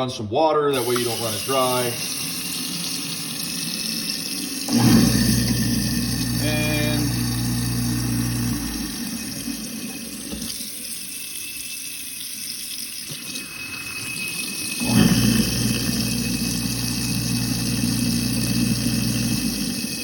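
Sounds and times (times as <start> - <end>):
garbage disposal motor running: 0.7 - 20.0
tap water flowing into sink: 0.7 - 20.0.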